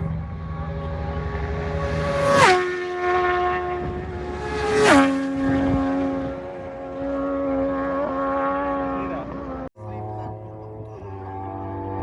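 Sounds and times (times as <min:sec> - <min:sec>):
racing sidecars passing at speed: 0:00.0 - 0:09.7.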